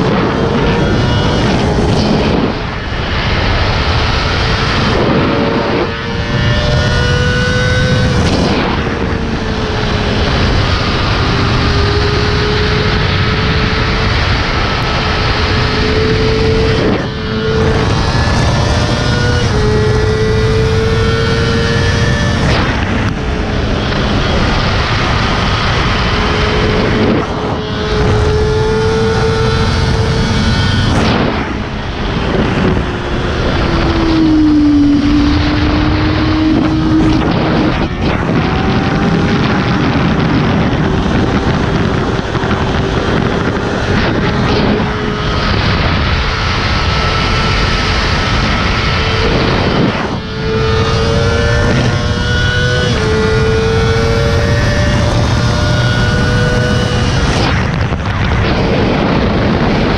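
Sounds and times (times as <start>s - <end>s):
motorcycle engine running: 0.0s - 59.9s
wind roar: 0.0s - 59.9s.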